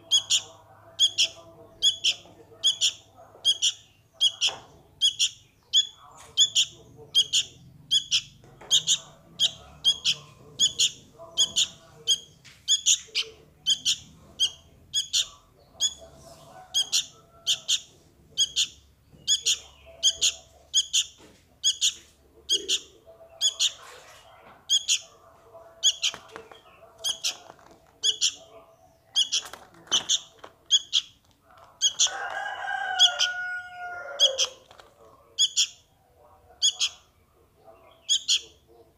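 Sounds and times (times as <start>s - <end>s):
fledgling bird begging calls: 0.0s - 16.0s, 16.7s - 23.8s, 24.7s - 25.2s, 27.0s - 27.4s, 28.0s - 34.6s, 35.4s - 35.9s, 36.6s - 37.1s, 38.0s - 38.6s.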